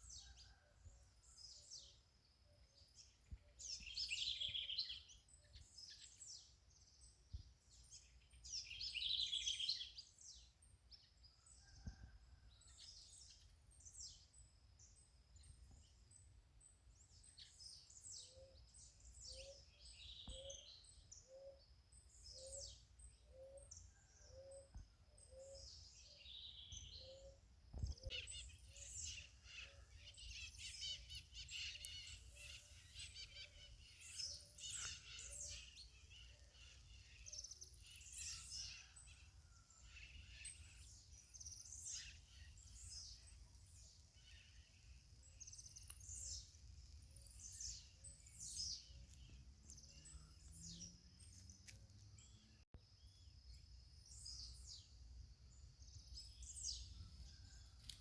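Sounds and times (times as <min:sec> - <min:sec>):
birds singing and chirping: 0:03.0 - 0:07.1, 0:07.9 - 0:10.7, 0:16.6 - 0:54.9, 0:55.5 - 0:58.0.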